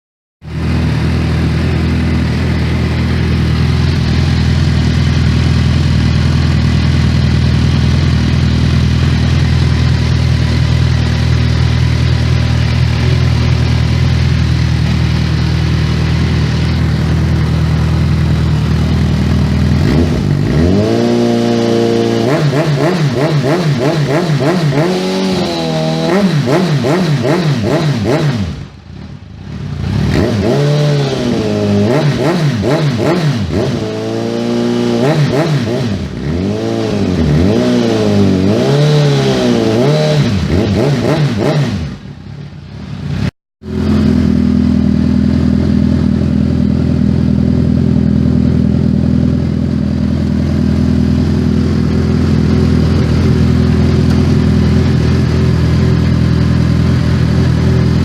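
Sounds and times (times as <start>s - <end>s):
motorcycle engine idling and revving: 0.4s - 58.0s.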